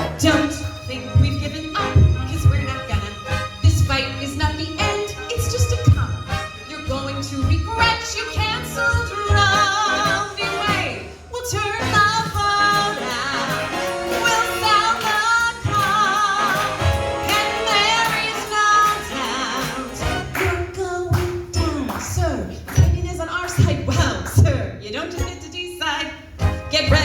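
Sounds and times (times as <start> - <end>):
instrumental backing music: 0.0 - 27.0
woman singing with vibrato: 0.0 - 27.0.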